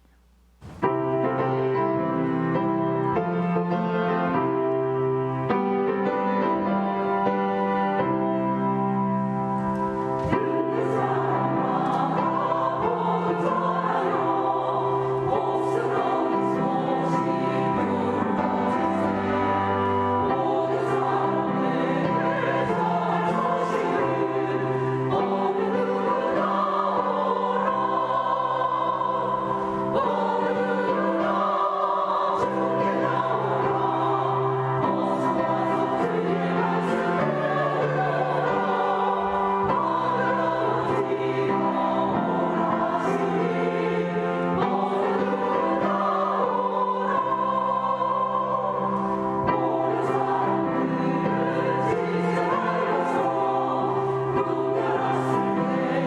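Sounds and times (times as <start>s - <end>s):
choir singing a hymn: 0.6s - 56.0s.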